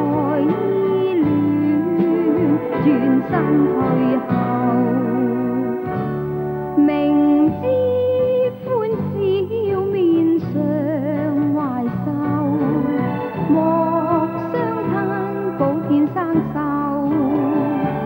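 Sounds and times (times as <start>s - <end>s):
solo voice singing with vibrato: 0.0s - 6.1s, 6.8s - 18.0s
band accompaniment: 0.0s - 18.0s.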